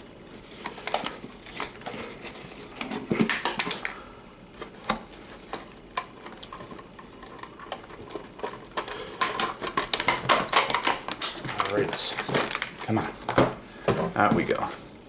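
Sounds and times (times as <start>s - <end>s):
cardboard and plastic handling clicks: 0.6s - 4.0s, 4.6s - 14.8s.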